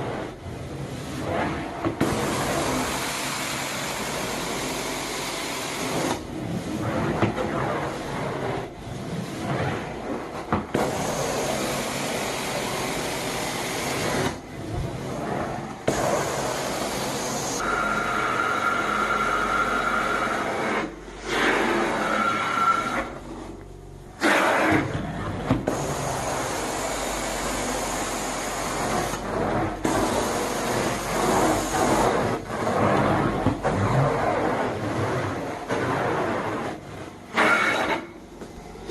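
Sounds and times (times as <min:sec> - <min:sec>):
carpet cleaning machine suction: 0:00.0 - 0:23.6, 0:24.2 - 0:38.9.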